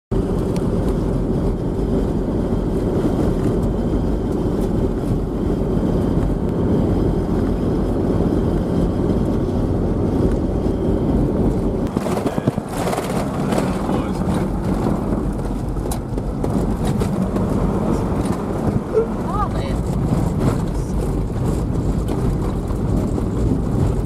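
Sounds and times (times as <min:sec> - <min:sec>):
vehicle engine and tyre rumble: 0:00.1 - 0:24.0.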